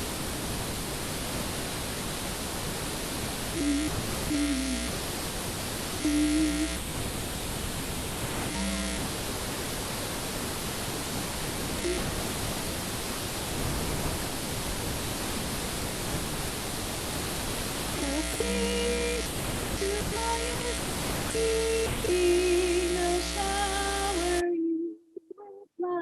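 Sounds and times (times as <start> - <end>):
recording noise hiss: 0.0 - 26.0.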